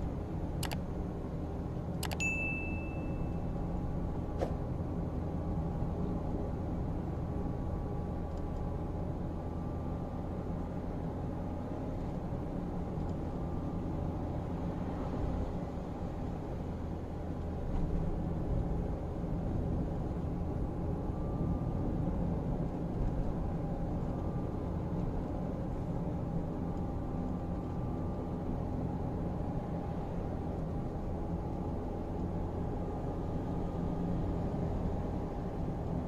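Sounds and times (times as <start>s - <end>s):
car engine and tyre noise: 0.0s - 36.0s.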